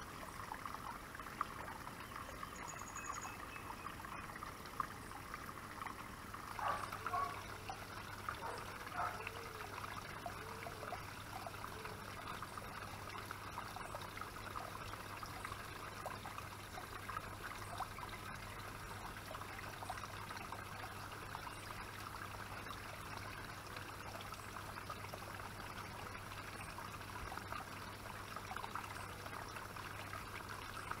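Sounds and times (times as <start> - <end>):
waterfall trickling into pond: 0.0 - 31.0.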